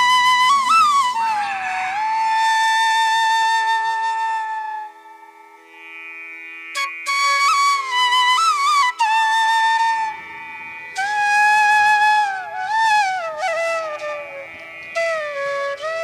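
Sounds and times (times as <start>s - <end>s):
steady drone: 0.0s - 3.8s, 4.9s - 15.9s
sliding flute melody: 0.0s - 5.5s, 6.7s - 16.0s.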